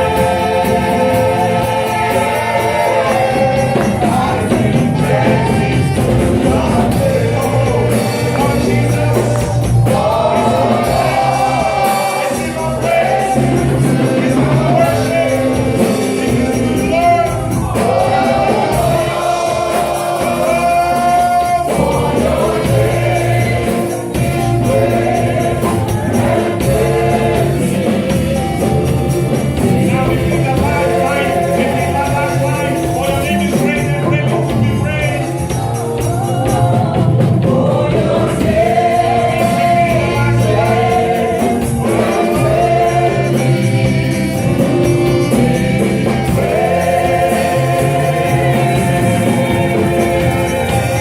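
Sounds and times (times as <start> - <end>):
gospel singers with a band: 0.0 - 51.0
tambourine: 0.0 - 51.0.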